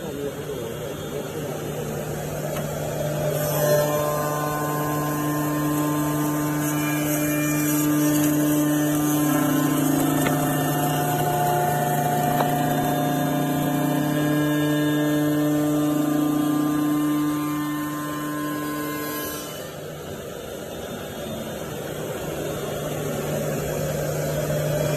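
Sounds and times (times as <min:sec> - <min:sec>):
lathe motor hum: 0:00.0 - 0:24.9
machine whining tones: 0:00.0 - 0:24.9.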